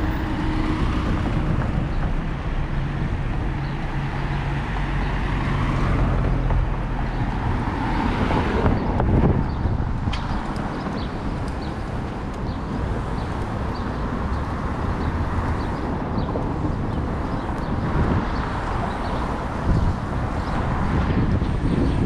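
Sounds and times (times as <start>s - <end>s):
vehicles driving past: 0.0s - 22.0s.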